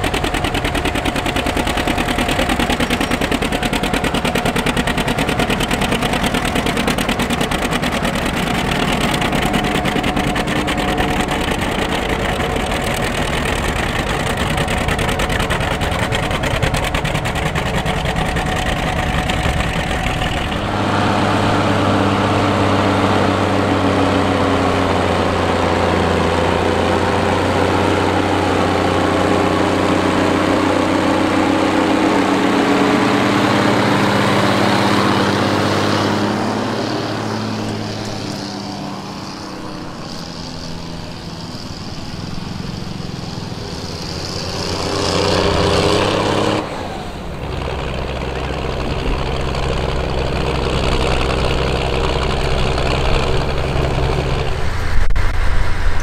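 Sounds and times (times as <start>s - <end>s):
tractor diesel engine working hard: 0.0s - 56.0s
tractor engine droning: 0.0s - 56.0s.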